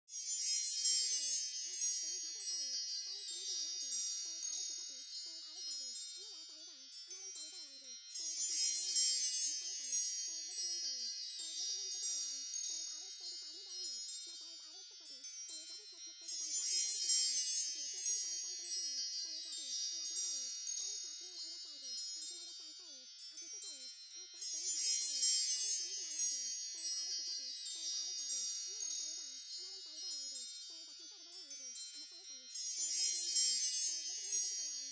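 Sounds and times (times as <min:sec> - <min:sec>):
wind chimes tinkling: 0:00.1 - 0:34.9.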